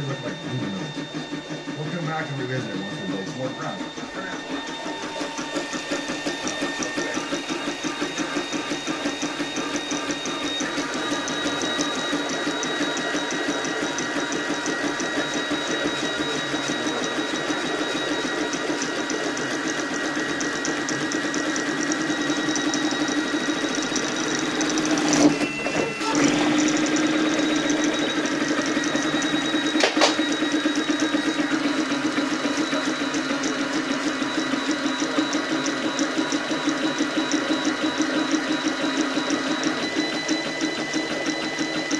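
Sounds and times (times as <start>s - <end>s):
steady high-pitched whine: 0.0s - 41.9s
stepper motors buzzing and whining: 0.0s - 41.9s.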